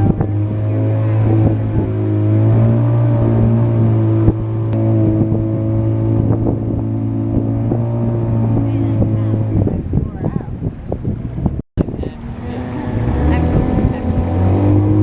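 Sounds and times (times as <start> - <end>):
motor engine droning: 0.0 - 15.0.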